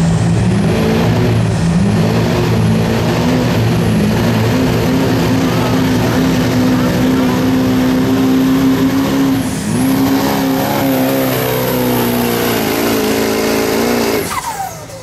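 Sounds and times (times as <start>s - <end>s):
diesel engine at high revs: 0.0s - 15.0s.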